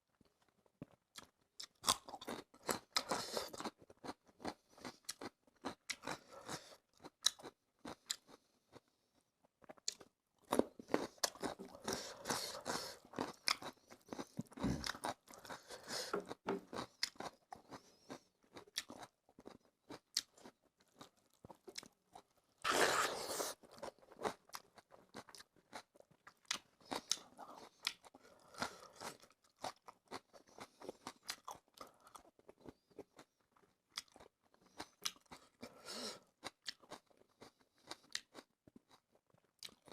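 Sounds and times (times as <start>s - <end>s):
person chewing and crunching food: 0.1s - 39.9s.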